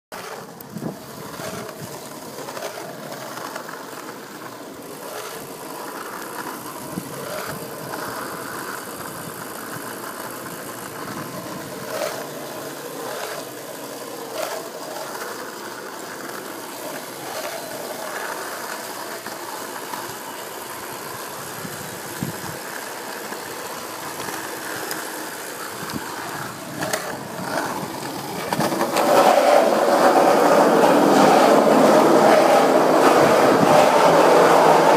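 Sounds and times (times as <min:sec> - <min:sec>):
skateboard clacks over bumps: 0:00.1 - 0:34.9
skateboard wheels rolling on pavement: 0:00.1 - 0:34.9.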